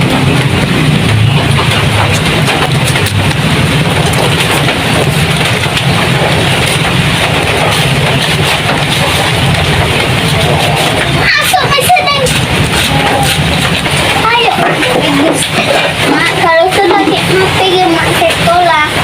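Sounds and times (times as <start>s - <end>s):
heavy rain on metal roof: 0.0s - 19.0s.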